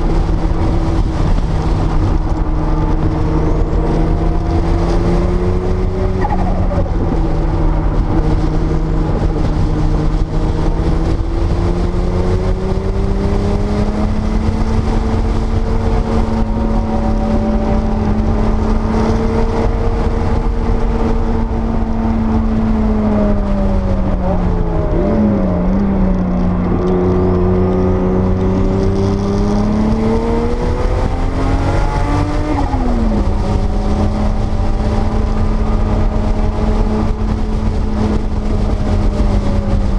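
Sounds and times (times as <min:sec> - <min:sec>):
road and wind rumble: 0:00.0 - 0:39.9
sports car engine revving: 0:00.0 - 0:39.9.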